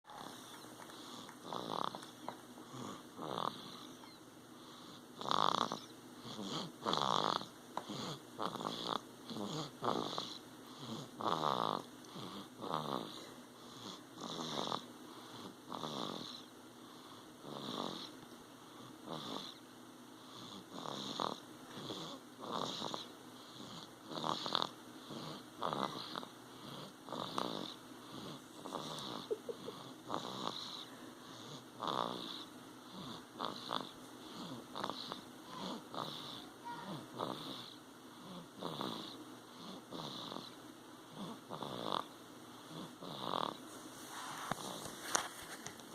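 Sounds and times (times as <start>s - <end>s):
baby snoring: 0.1s - 19.6s, 20.2s - 43.6s.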